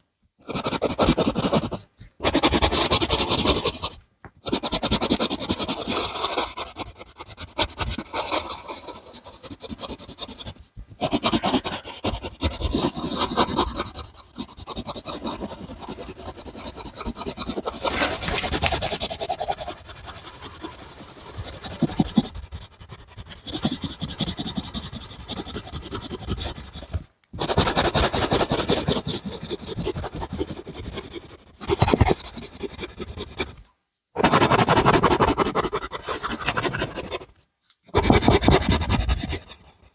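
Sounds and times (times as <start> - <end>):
pencil scratching on paper: 0.4 - 33.6, 34.2 - 39.9.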